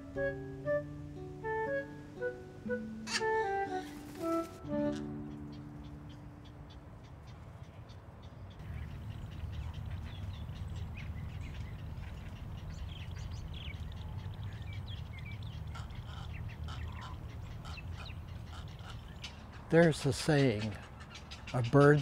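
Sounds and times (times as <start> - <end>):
waterbirds squawking: 3.0 - 13.9, 14.9 - 22.0.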